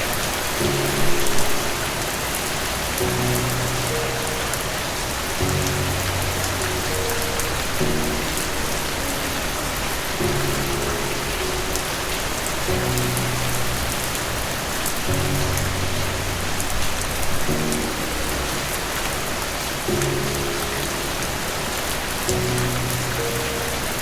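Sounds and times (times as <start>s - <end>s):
heavy rain falling: 0.0s - 24.0s
soft low music chords: 0.0s - 24.0s.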